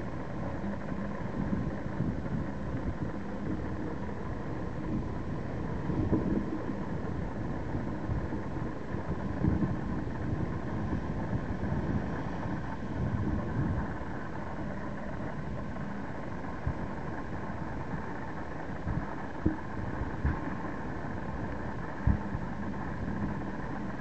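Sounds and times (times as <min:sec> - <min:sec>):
faint steady hum: 0:00.0 - 0:24.0
wind buffeting microphone: 0:00.0 - 0:24.0.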